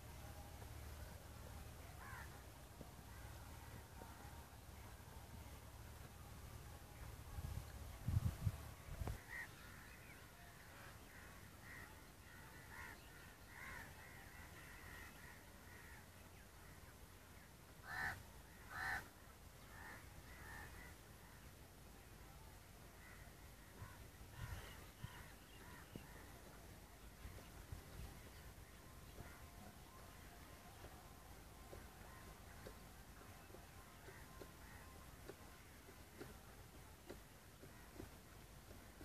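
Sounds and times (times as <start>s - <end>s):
faint birds calling: 0.0s - 39.0s.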